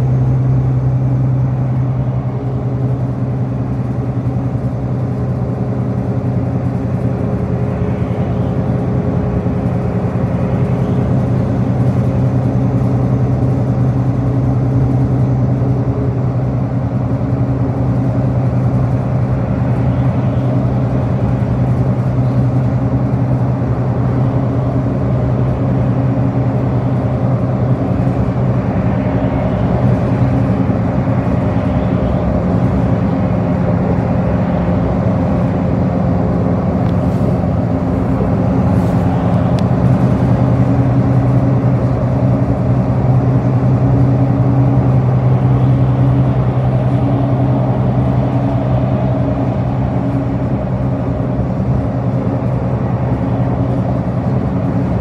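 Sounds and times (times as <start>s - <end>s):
bus engine humming: 0.0s - 55.0s
road and cabin noise: 0.0s - 55.0s.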